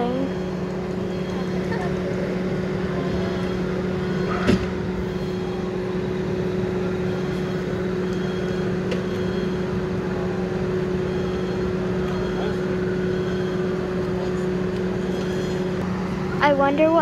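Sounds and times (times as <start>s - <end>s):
distant wailing sirens: 0.0s - 17.0s
fire truck engines idling: 0.0s - 17.0s.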